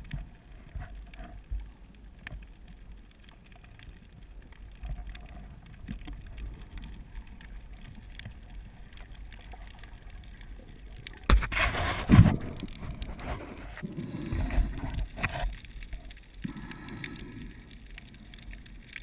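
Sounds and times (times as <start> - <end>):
faint clicks: 0.0 - 11.5, 12.3 - 19.0.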